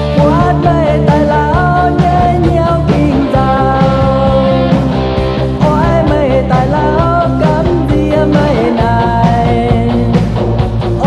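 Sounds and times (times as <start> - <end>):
rock song with full band: 0.0 - 11.0.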